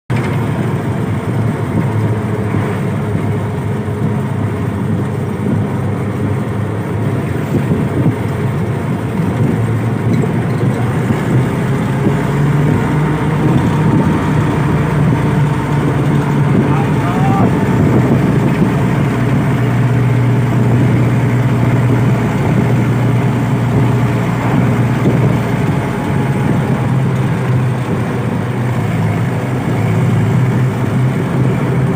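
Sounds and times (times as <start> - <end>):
jeep engine running: 0.1 - 31.9.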